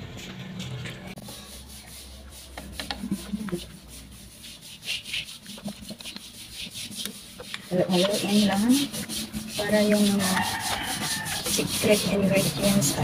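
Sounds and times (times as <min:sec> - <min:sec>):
tongs scraping a pan: 0:01.2 - 0:13.0.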